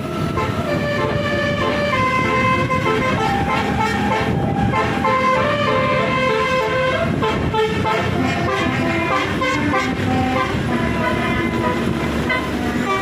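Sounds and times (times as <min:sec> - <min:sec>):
bus horns playing a melody: 0:00.0 - 0:13.0.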